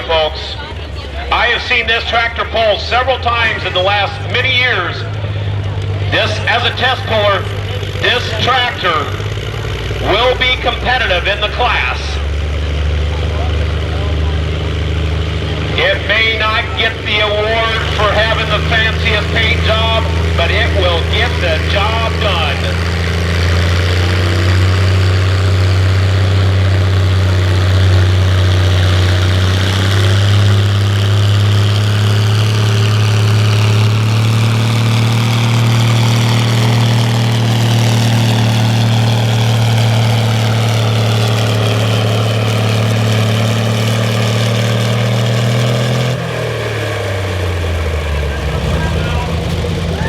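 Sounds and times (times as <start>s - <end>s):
tractor engine under load: 0.0s - 50.0s.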